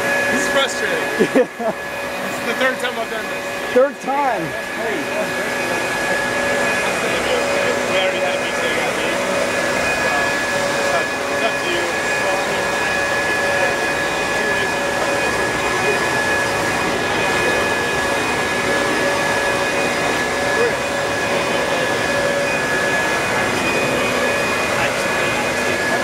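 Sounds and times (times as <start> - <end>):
blower machine whining: 0.0 - 26.0.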